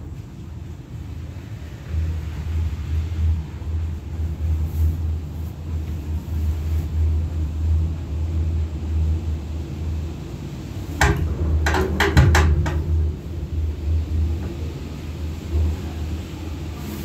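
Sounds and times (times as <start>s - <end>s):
pulsing rumble of gondola cabin: 0.0s - 17.0s.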